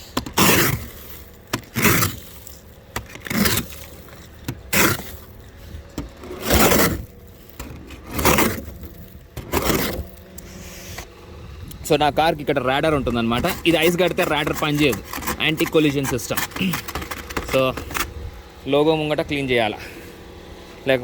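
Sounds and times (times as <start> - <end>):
ice scraper scraping car ice: 0.0 - 11.1, 12.0 - 18.1.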